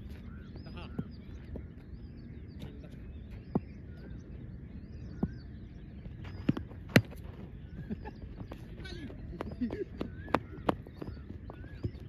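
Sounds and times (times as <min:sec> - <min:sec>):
birds chirping: 0:00.0 - 0:12.0
low background hum: 0:00.0 - 0:12.0.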